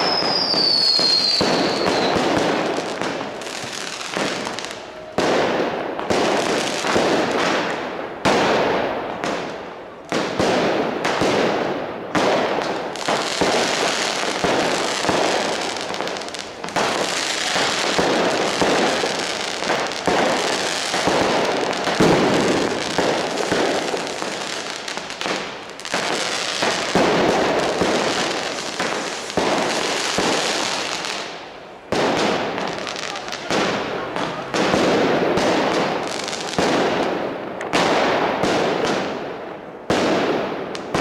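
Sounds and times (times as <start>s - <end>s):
fireworks crackling: 0.0s - 41.0s
loud firework bangs: 0.0s - 41.0s.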